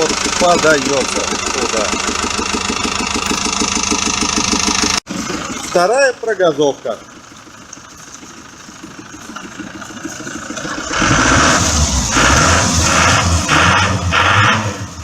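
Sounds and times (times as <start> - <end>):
boat diesel engine idling and revving: 0.0 - 15.0.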